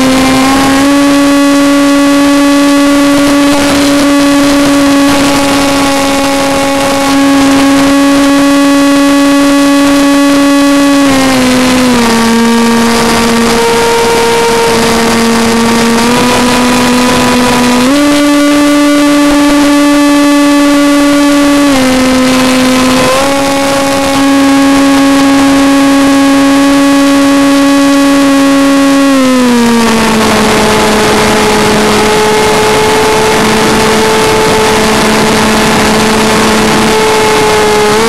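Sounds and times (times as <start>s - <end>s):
electric motor and propeller whine: 0.0s - 38.0s.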